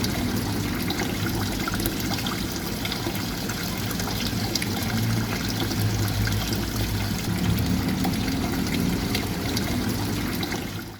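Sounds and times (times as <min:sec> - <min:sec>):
water trickling and dripping: 0:00.0 - 0:10.9.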